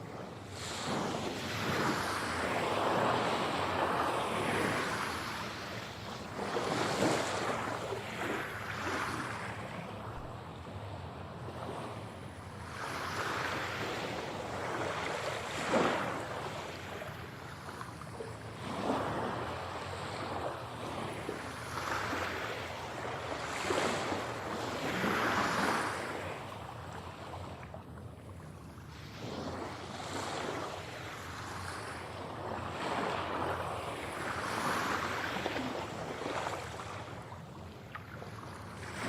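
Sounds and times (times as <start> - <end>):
ocean waves breaking on shore: 0.0 - 39.0.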